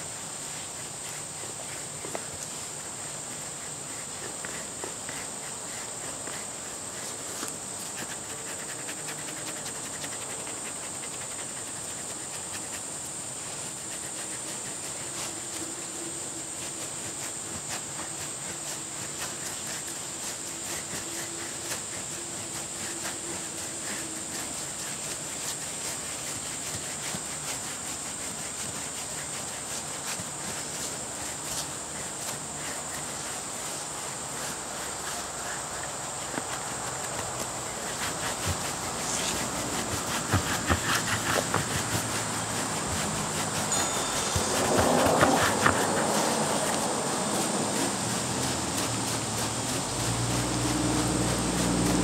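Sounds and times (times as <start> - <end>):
brush rustling through dog fur: 0.0 - 52.0
high insect buzz: 0.0 - 52.0.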